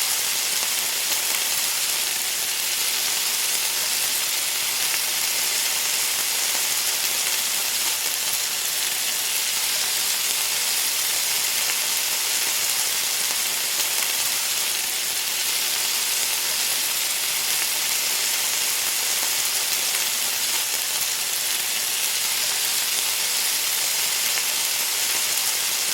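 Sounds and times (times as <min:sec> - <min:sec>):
hot food sizzling: 0:00.0 - 0:25.9.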